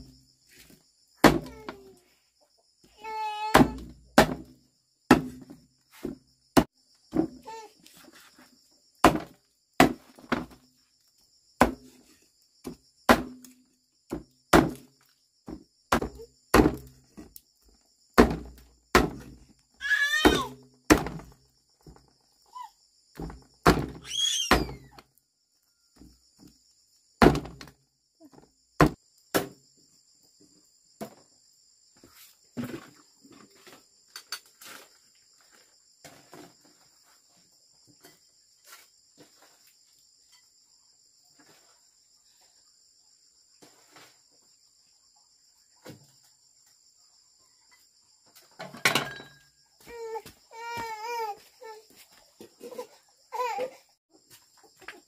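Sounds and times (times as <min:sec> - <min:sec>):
insects trilling: 0:04.6 - 0:55.0.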